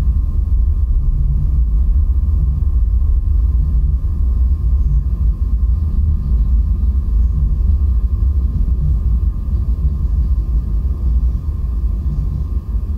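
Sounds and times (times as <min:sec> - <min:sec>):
faint steady tones: 0:00.0 - 0:12.9
loud low rumble: 0:00.0 - 0:12.9.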